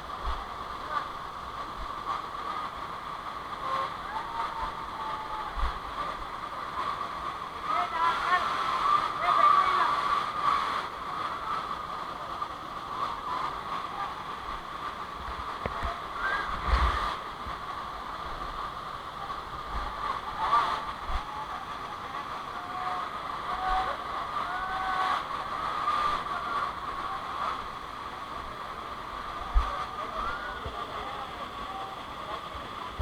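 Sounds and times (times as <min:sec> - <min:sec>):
water rushing: 0:00.0 - 0:33.0.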